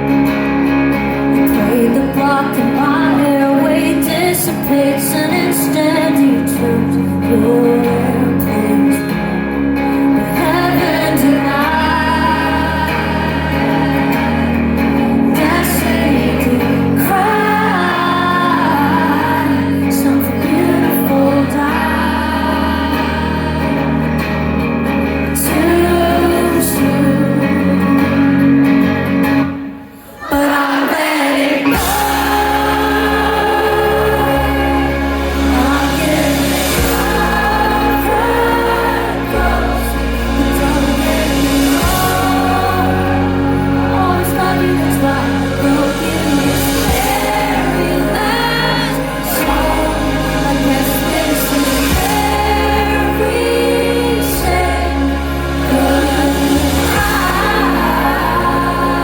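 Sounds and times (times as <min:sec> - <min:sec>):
sustained bass notes: 0:00.0 - 0:30.0, 0:31.6 - 0:59.0
guitar and band: 0:00.0 - 0:59.0
woman singing: 0:01.3 - 0:24.4, 0:25.1 - 0:28.5, 0:30.2 - 0:59.0.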